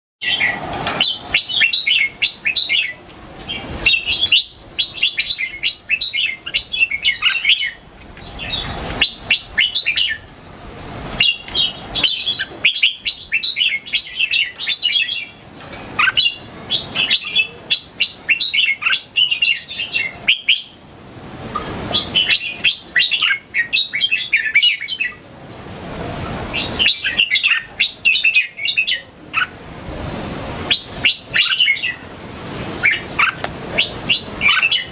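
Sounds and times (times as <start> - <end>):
bird singing chirpy song: 0.2 - 10.3, 11.2 - 20.8, 21.9 - 25.2, 26.5 - 29.6, 30.7 - 32.1, 32.8 - 34.9.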